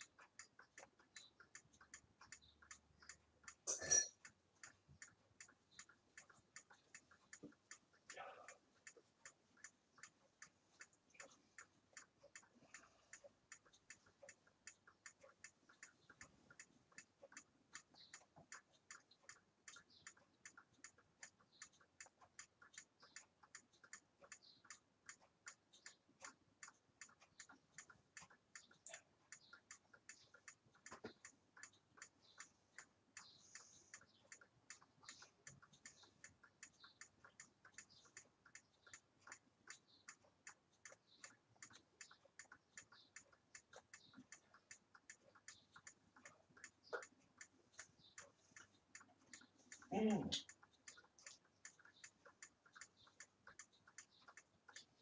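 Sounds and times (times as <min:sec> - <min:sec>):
wall clock ticking: 0:00.0 - 0:55.0.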